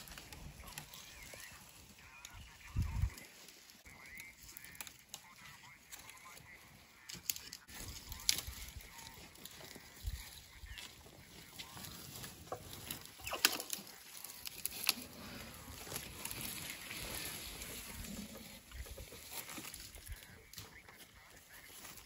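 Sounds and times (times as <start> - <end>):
birds honking and cackling: 0.0 - 22.0.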